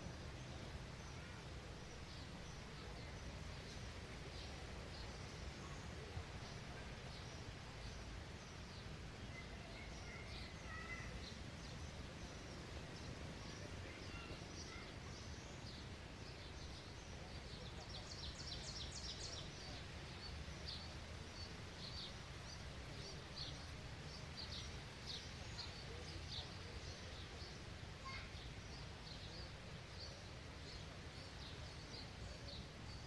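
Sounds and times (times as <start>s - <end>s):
small songbirds chirping: 0.0s - 33.0s.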